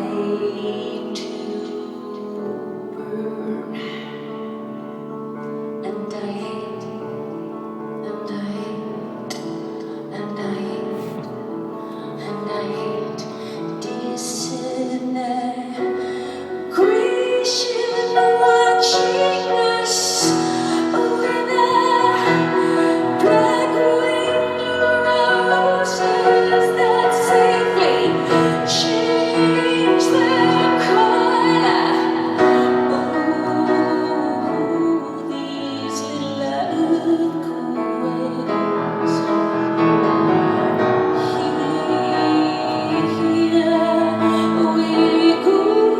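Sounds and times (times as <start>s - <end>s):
woman singing: 0.0s - 4.7s, 5.7s - 45.9s
piano chords: 0.0s - 45.9s.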